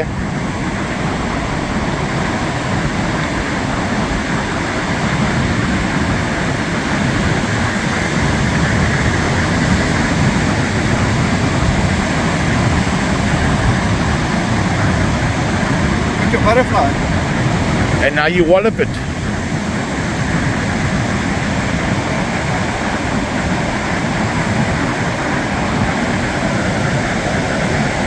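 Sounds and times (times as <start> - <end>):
breaking surf: 0.0 - 28.0
wind buffeting microphone: 0.0 - 28.0.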